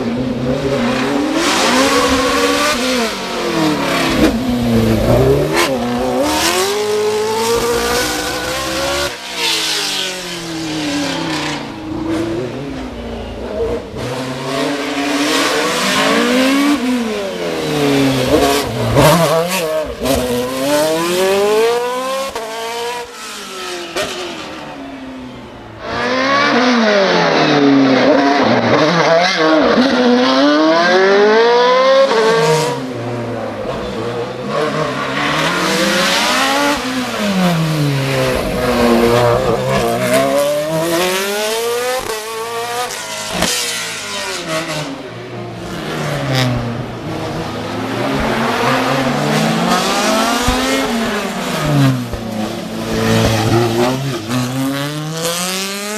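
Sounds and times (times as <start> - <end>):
racing car engines revving: 0.0 - 55.9.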